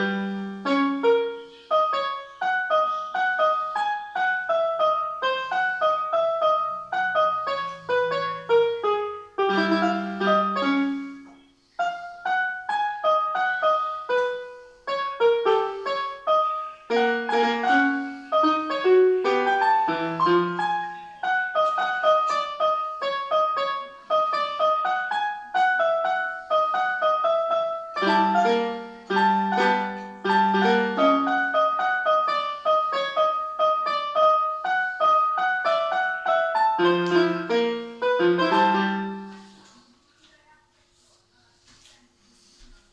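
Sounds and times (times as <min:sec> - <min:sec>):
solo piano playing: 0:00.0 - 0:39.6.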